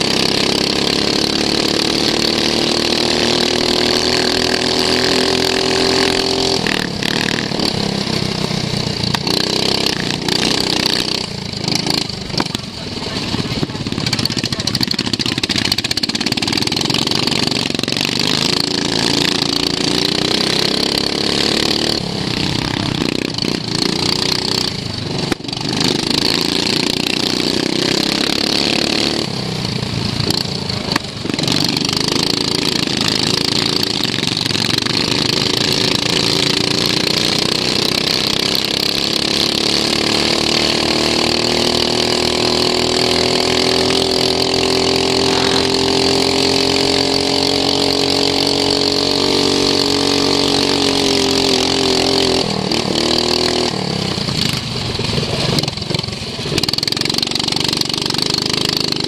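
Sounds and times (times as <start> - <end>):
lawn mower engine revving: 0.0 - 59.0.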